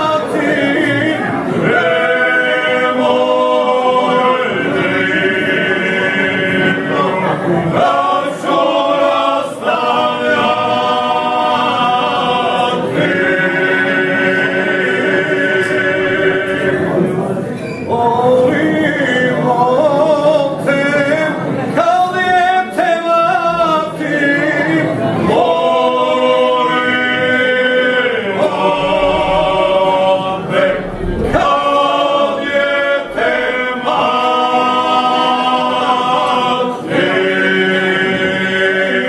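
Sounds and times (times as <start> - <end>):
men singing unaccompanied: 0.0 - 17.1, 17.9 - 39.0.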